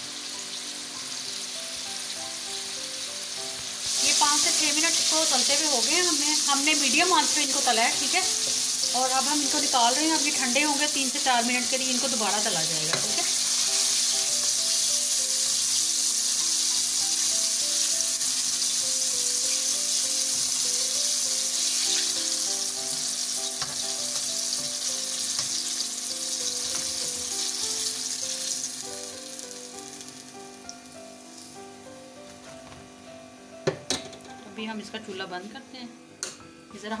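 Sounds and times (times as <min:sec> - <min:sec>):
chicken deep-frying in oil: 0:00.0 - 0:30.9
soft background music: 0:00.0 - 0:37.0.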